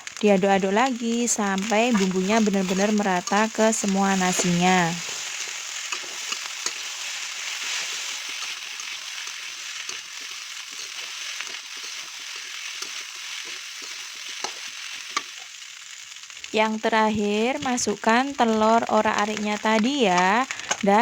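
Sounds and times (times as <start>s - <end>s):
rice sizzling in a pan: 0.0s - 21.0s.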